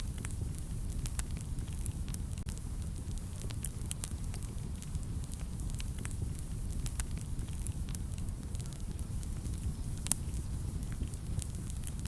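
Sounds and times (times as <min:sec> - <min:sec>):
flames rumbling: 0:00.0 - 0:12.0
wood fire crackling and popping: 0:00.0 - 0:12.0.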